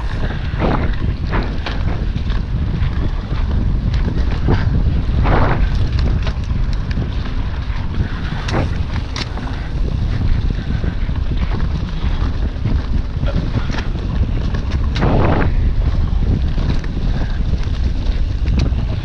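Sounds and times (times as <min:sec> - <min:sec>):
bike clicks and rattles: 0:00.0 - 0:19.0
tyres rumbling on trail: 0:00.0 - 0:19.0
wind buffeting microphone: 0:00.0 - 0:19.0.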